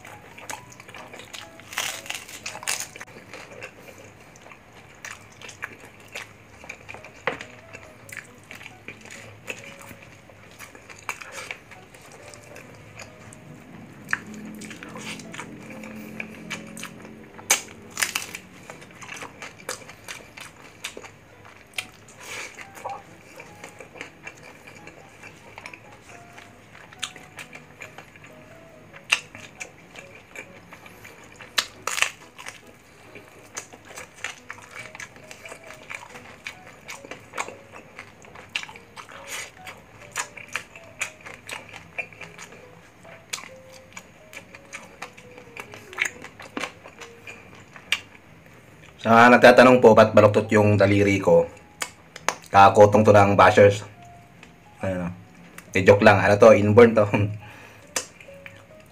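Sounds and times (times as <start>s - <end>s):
crackly crunches: 0.0s - 13.3s, 14.1s - 49.5s, 57.8s - 58.9s
chewing crispy food: 0.0s - 58.9s.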